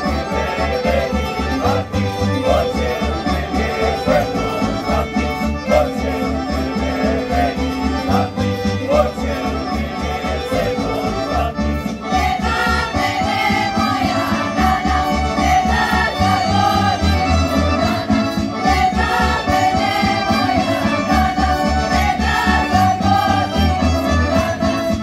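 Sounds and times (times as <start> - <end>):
accordion: 0.0 - 25.0
voices singing: 0.0 - 25.0.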